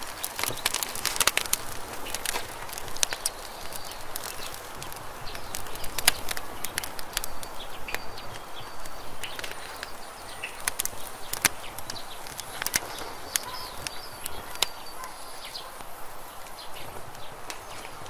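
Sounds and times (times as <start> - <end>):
campfire crackling and popping: 0.0 - 18.0
fire hiss: 0.0 - 18.0.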